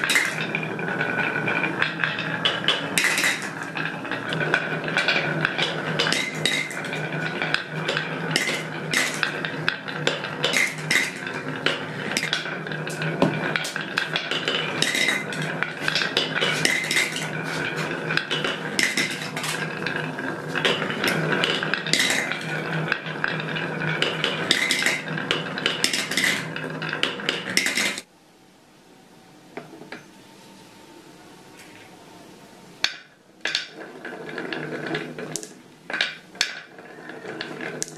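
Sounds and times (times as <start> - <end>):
marbles clinking in plastic bowl: 0.0 - 28.1, 33.0 - 37.9
marbles rolling down wooden chute: 0.0 - 28.1, 32.8 - 37.9.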